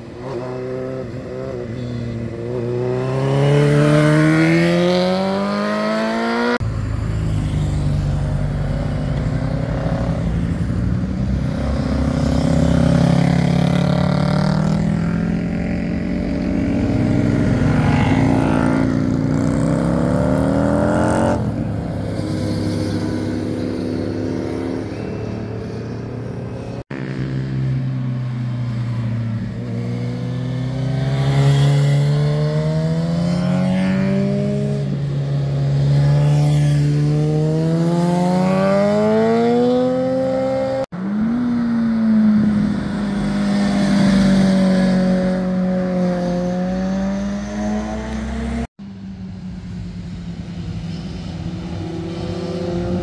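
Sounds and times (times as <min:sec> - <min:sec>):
motorcycles accelerating past: 0:00.2 - 0:26.0, 0:26.6 - 0:48.7, 0:51.2 - 0:53.0.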